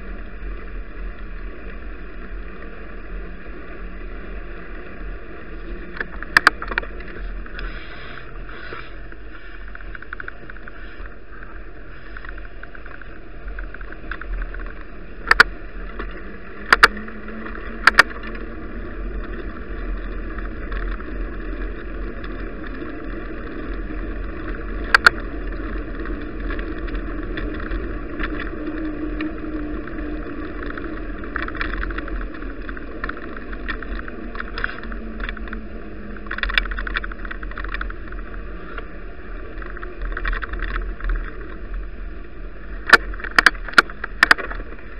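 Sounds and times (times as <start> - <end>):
bicycle tyres on snowy road: 0.0 - 44.9
low hum: 0.0 - 44.9
wind noise: 0.0 - 44.9.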